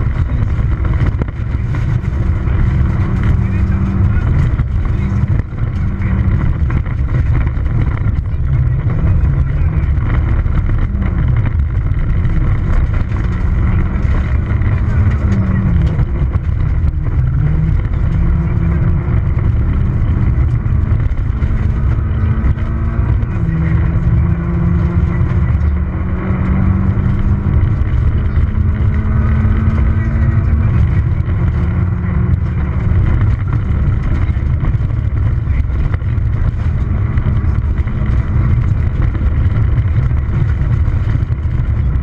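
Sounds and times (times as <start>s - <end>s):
car engine at high revs: 0.0s - 42.0s
tyres rumbling on gravel: 0.0s - 42.0s.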